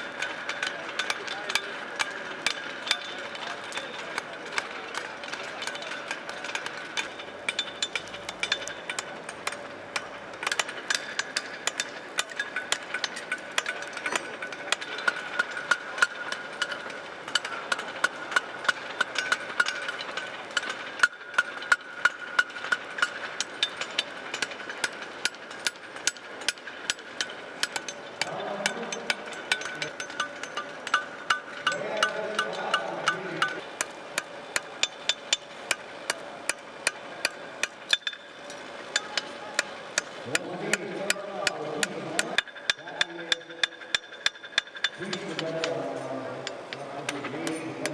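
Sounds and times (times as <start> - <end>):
anvils ringing: 0.0 - 47.9
hammers striking steel on anvils: 0.0 - 47.9.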